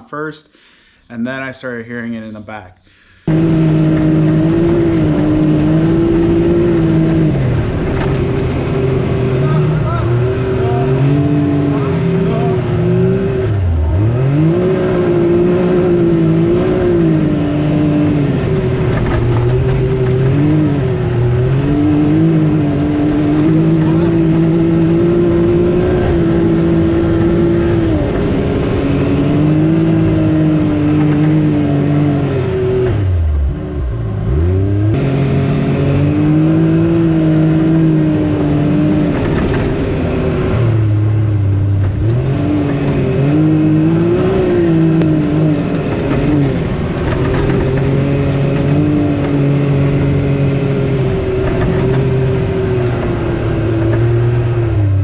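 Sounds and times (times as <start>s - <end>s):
engine revving under load: 2.9s - 55.0s.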